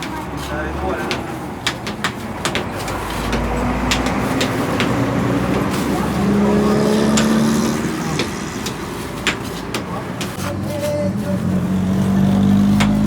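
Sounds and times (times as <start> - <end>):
clicks and knocks: 0.0 - 10.4, 12.6 - 13.0
engine humming: 0.0 - 13.0.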